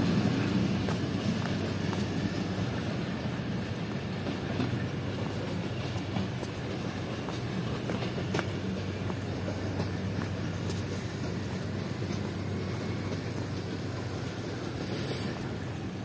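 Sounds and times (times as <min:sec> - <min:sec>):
diesel locomotive drone: 0:00.0 - 0:16.0
wheel and rail noise: 0:00.0 - 0:16.0
wheels clicking over rail joints: 0:00.0 - 0:16.0.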